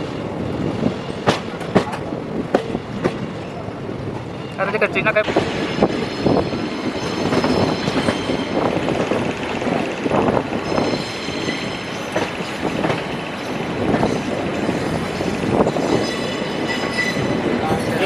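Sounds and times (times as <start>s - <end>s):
train running on rails: 0.0s - 18.0s.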